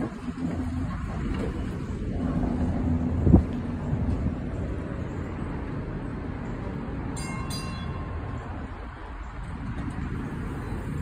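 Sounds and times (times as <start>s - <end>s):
streetcar rumbling along rails: 0.0s - 11.0s.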